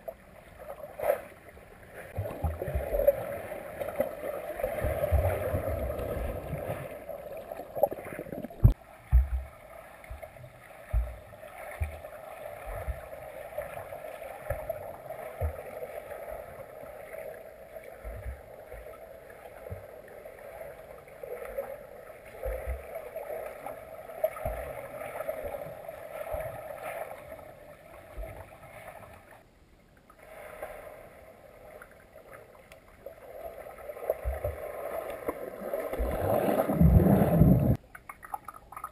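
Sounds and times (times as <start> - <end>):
low thumps of swimming strokes: 0.0 - 29.5, 30.2 - 37.8
muffled underwater water hum: 0.0 - 38.0.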